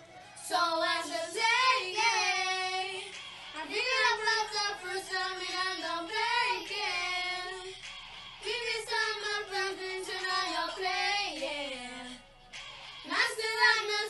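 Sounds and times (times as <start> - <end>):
girls singing: 0.4 - 14.0.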